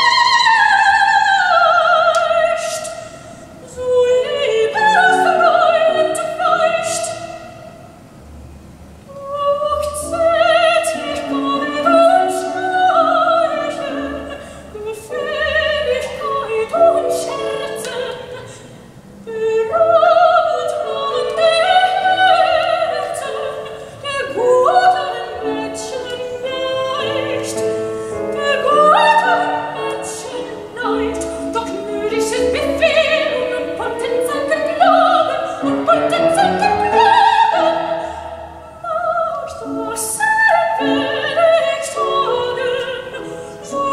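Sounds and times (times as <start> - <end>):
operatic singing: 0.0 - 7.8, 9.1 - 43.9
classical instrumental accompaniment: 8.0 - 43.9.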